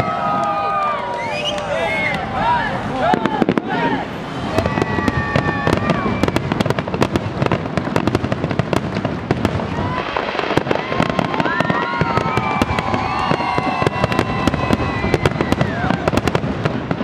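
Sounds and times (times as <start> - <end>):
fireworks crackling bangs and pops: 0.0 - 17.0.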